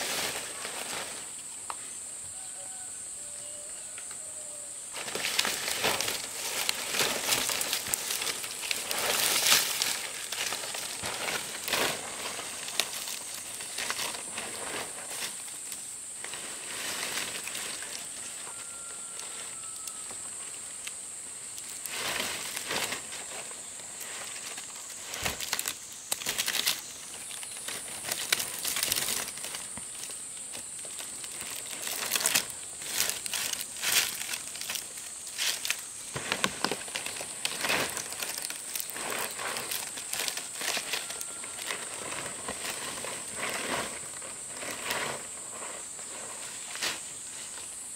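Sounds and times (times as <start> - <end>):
palm leaves rustling and crackling: 0.0 - 1.8, 4.9 - 47.9.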